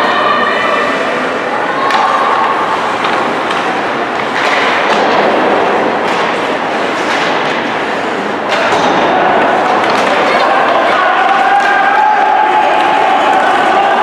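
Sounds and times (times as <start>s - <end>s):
spectators: 0.0s - 14.0s
hockey sticks and puck clacking: 1.8s - 14.0s.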